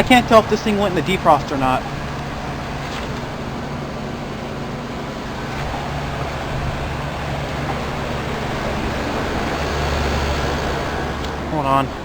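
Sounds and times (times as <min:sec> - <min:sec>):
heat pump compressor hum: 0:00.0 - 0:12.0.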